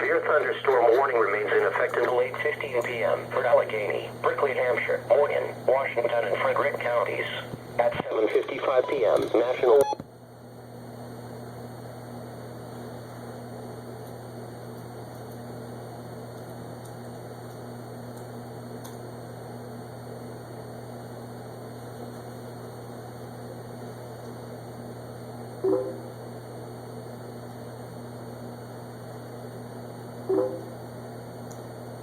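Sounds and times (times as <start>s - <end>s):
low electrical hum with hiss: 0.0s - 32.0s.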